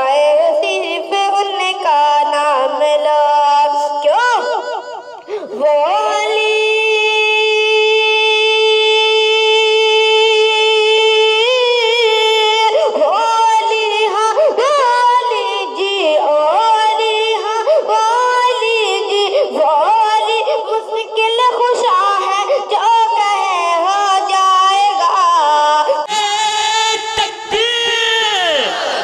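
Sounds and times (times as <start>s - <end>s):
boy singing unaccompanied: 0.0s - 28.7s.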